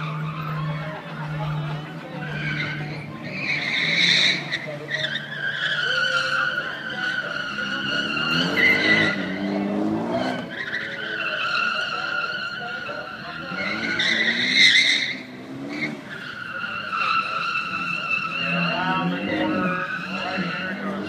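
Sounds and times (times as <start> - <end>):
car engine revving: 0.0 - 21.0
tyres squealing: 0.0 - 21.0.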